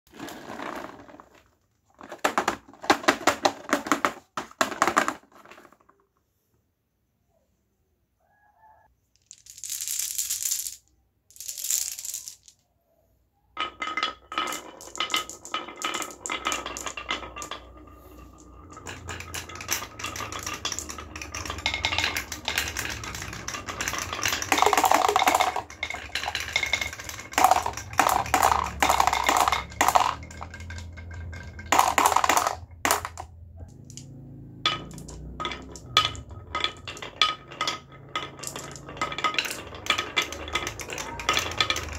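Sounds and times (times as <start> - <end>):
balls rolling down wooden marble run: 0.1 - 6.2, 9.2 - 12.6, 13.6 - 41.9.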